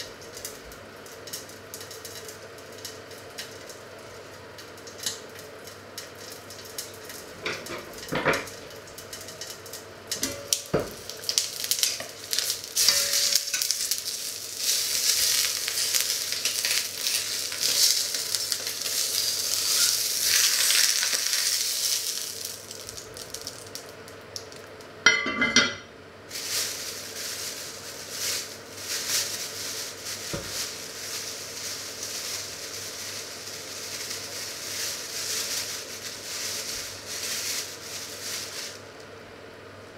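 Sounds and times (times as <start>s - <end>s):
chicken sizzling in hot oil: 0.0s - 24.8s, 26.2s - 39.0s.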